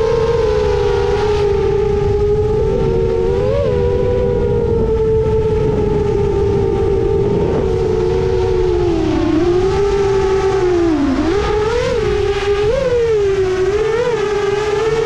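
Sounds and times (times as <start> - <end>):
low rush of noise: 0.0 - 13.6
quadcopter motors whining: 0.0 - 15.0.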